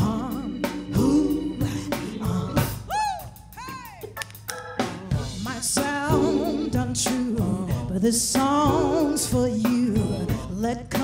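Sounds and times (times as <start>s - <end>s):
band playing: 0.0s - 11.0s.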